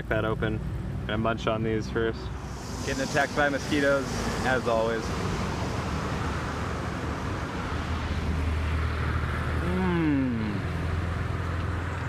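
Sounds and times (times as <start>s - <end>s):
low engine hum: 0.0s - 12.0s
outdoor traffic noise: 0.0s - 12.0s.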